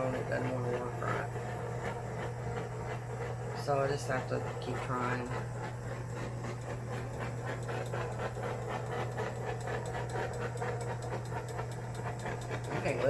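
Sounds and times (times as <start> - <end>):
steady low hum: 0.0 - 13.0
torch hissing and sputtering: 0.0 - 13.0.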